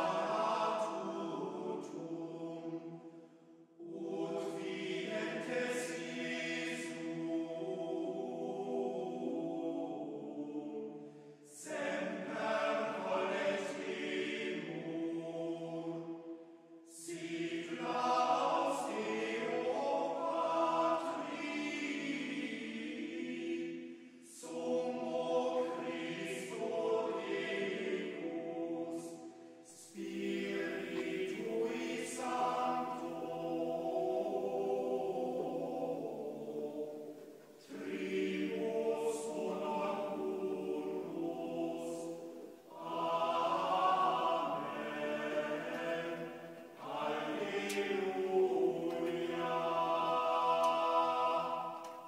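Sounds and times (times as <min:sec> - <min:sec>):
choir singing slow chant: 0:00.0 - 0:52.0.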